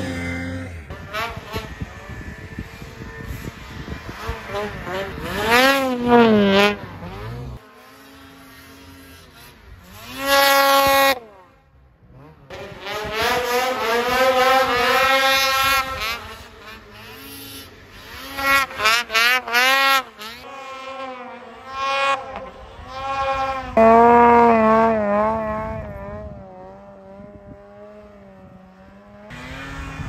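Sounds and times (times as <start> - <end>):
snowmobile engines revving: 0.0 - 30.0.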